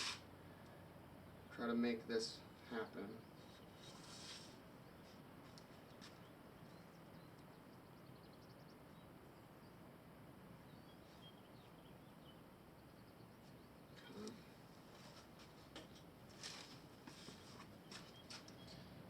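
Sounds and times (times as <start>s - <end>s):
faint bird chirps and trills: 0.0s - 19.0s.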